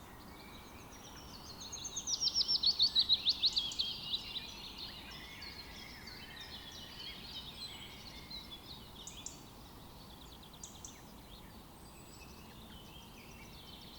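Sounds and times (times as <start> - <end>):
songbirds chirping and twittering: 0.0 - 13.9
steady outdoor hiss: 0.0 - 13.9.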